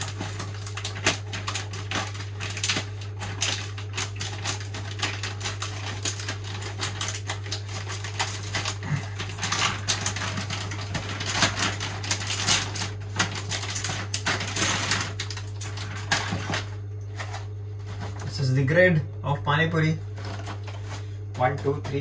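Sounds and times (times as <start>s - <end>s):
plastic bag crinkling: 0.0s - 18.5s, 20.0s - 22.0s
steady low hum: 0.0s - 22.0s.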